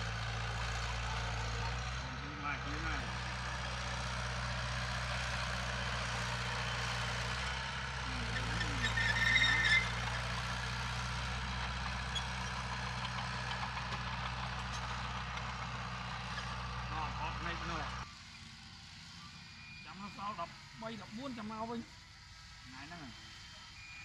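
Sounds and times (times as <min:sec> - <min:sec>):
diesel machinery engine hum: 0:00.0 - 0:24.0.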